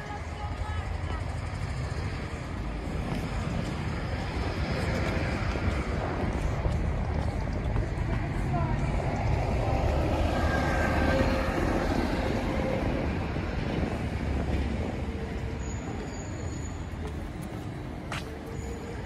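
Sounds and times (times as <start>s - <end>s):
bus driving past: 0.0s - 19.0s
distant traffic noise: 0.0s - 19.0s.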